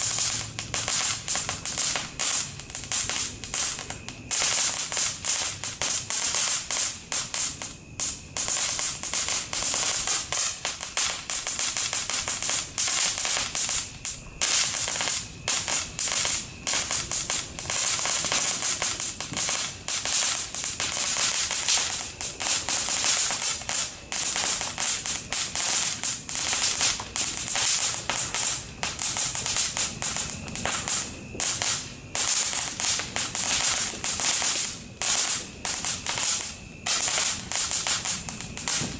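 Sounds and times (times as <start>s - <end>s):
fountain firework crackling: 0.0s - 38.9s.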